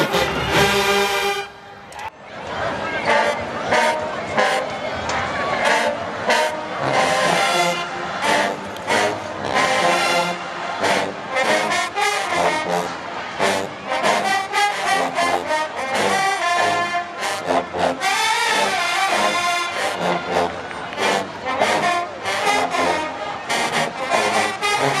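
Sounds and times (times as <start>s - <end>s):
brass section playing chords: 0.0s - 1.6s, 3.0s - 4.8s, 5.6s - 25.0s.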